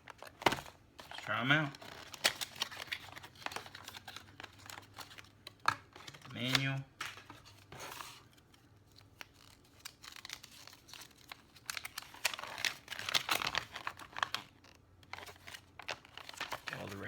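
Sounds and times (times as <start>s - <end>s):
paper and plastic packaging rustling: 0.0s - 17.0s.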